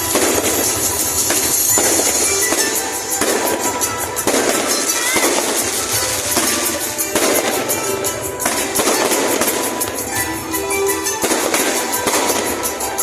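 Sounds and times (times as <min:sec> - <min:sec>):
firecrackers crackling: 0:00.0 - 0:13.0
music playing: 0:00.0 - 0:13.0.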